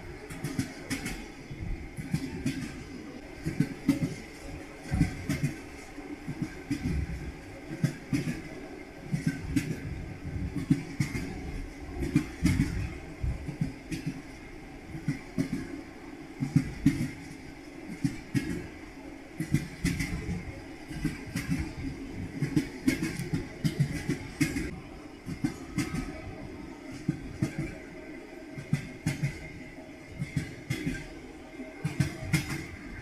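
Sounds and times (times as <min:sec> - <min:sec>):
train rolling rumble: 0:00.0 - 0:33.0
train wheels clacking: 0:00.0 - 0:33.0.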